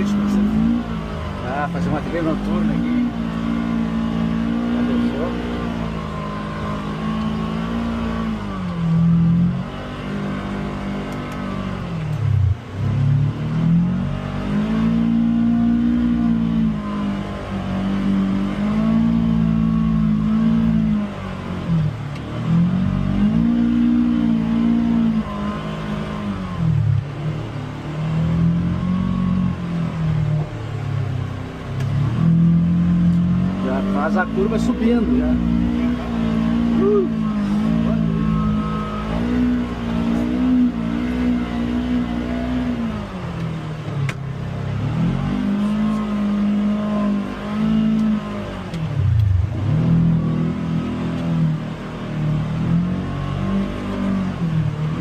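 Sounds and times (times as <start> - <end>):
utility vehicle engine revving: 0.0 - 55.0.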